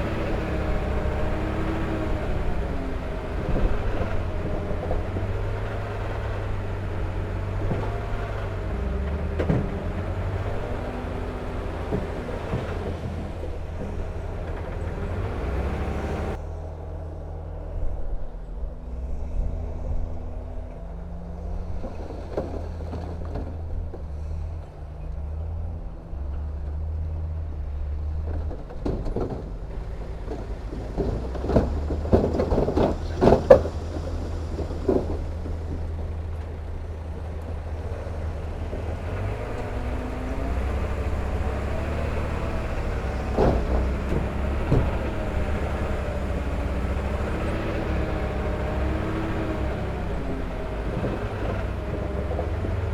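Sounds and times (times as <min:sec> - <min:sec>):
diesel machinery running: 0:00.0 - 0:52.9.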